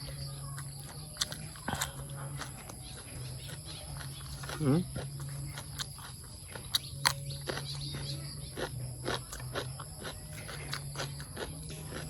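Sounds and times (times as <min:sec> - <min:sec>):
low hum: 0:00.0 - 0:11.9
insect chorus: 0:00.0 - 0:12.0.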